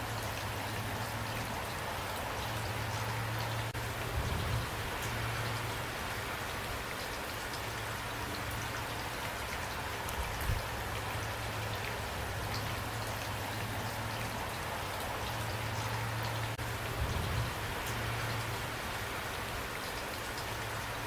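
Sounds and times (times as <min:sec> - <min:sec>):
rain drops pattering: 0:00.0 - 0:21.0.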